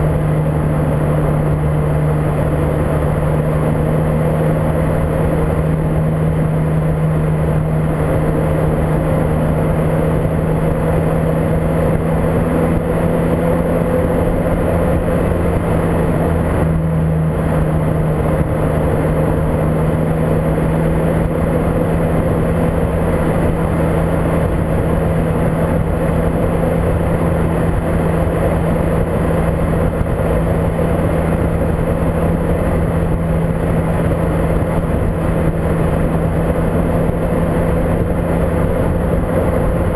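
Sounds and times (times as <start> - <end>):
car engine droning: 0.0 - 39.9
wind noise on microphone: 0.0 - 39.9.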